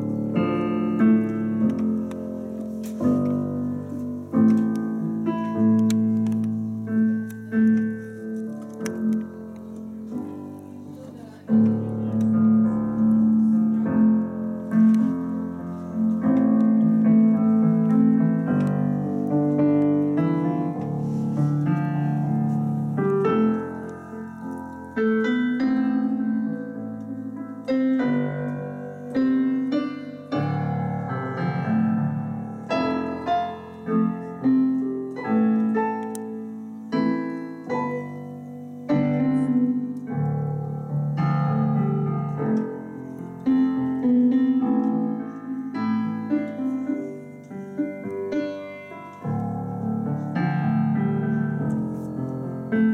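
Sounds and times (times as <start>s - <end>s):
piano piece: 0.0s - 52.9s.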